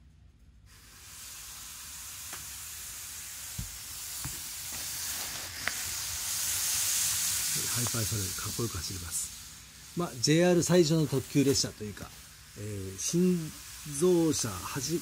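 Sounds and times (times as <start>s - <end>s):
model train whirring on track: 0.7s - 15.0s.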